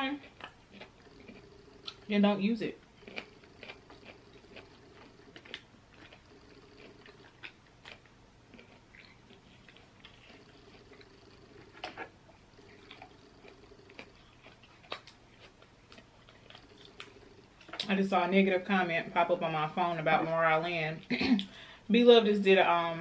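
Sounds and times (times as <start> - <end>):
chewing and handling food: 0.0 - 21.5
low steady hum: 0.0 - 23.0.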